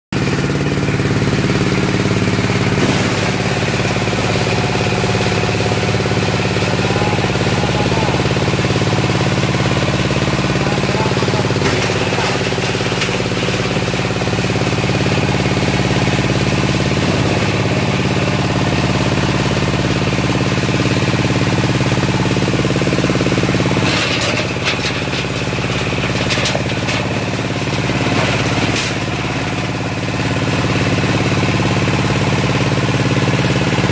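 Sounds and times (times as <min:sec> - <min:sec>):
sorting machine humming: 0:00.2 - 0:33.9.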